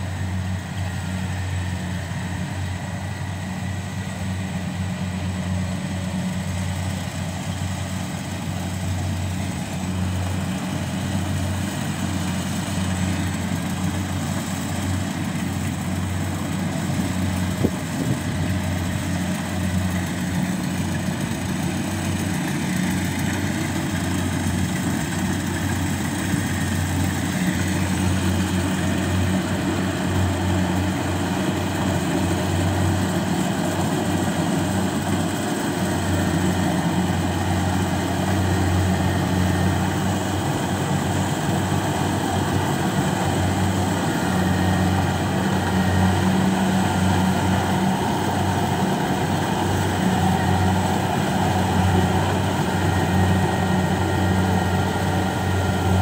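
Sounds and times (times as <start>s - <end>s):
combine harvester engine drone: 0.0s - 56.0s
threshing machinery hum: 0.0s - 56.0s.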